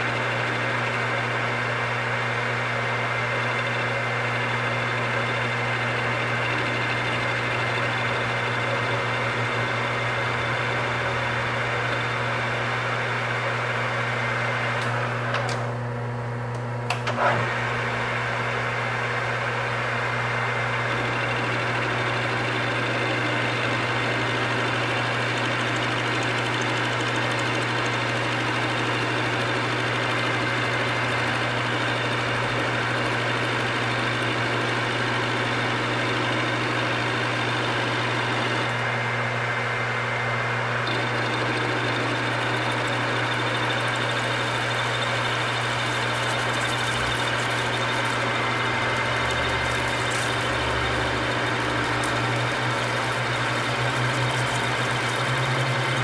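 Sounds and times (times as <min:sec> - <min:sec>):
metal lathe cutting: 0:00.0 - 0:15.7, 0:17.0 - 0:39.1, 0:40.6 - 0:56.0
motor hum: 0:00.0 - 0:56.0.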